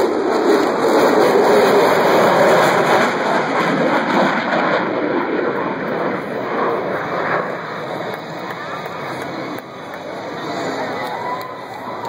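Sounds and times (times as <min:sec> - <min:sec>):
jet flying past: 0:00.0 - 0:12.0.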